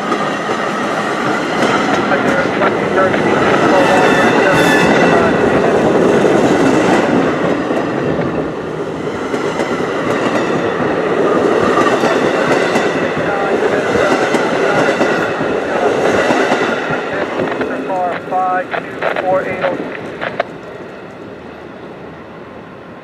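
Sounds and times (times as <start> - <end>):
steel wheels rumbling on rails: 0.0 - 23.0.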